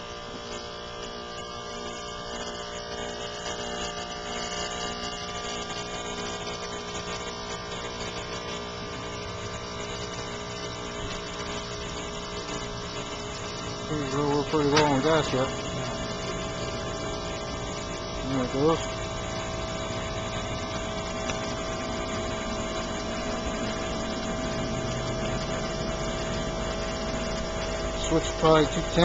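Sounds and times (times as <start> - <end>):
compressor humming: 0.0 - 29.0.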